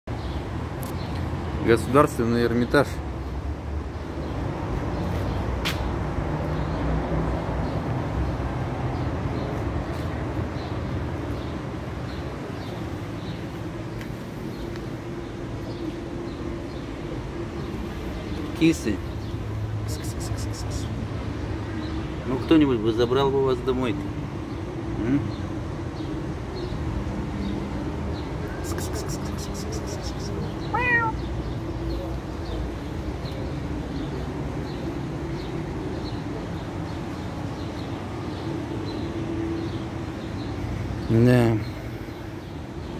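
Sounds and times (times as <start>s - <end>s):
low city rumble: 0.0s - 42.9s
small birds chirping: 0.1s - 7.0s, 7.6s - 42.9s.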